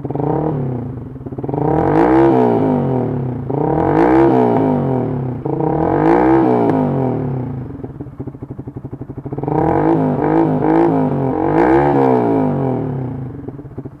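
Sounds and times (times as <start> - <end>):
engine idling with pulsing beat: 0.0 - 2.0, 2.8 - 14.0
motorcycle engine revving: 0.0 - 14.0.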